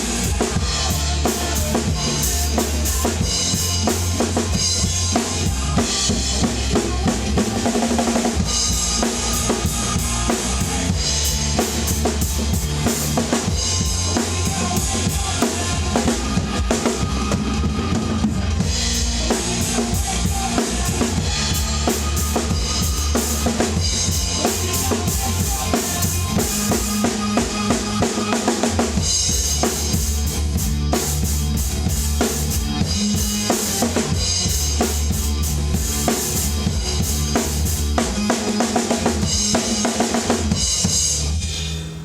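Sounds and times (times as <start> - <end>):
drum kit played hard: 0.0 - 42.0
hard rock track: 0.0 - 42.0.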